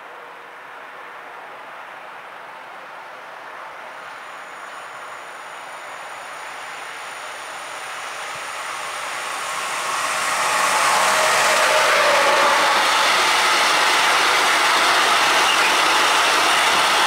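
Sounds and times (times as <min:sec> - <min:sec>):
electric freight train passing: 0:03.3 - 0:17.0.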